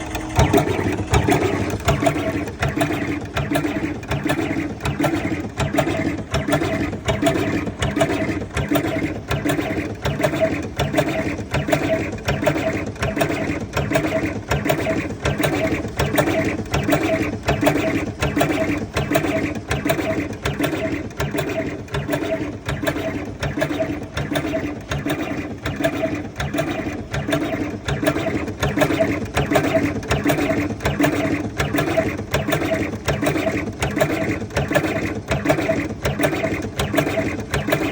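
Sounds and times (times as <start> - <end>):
machine motor hum: 0.0 - 37.9
mechanism clicks and clacks: 0.0 - 37.9.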